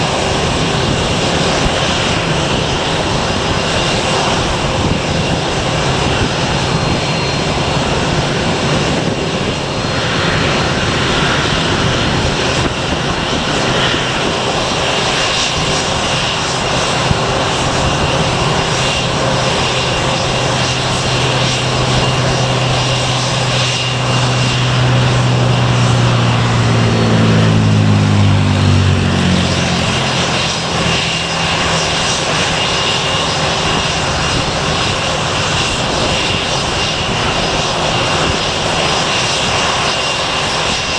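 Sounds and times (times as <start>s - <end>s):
airliner engines roaring: 0.0s - 40.9s.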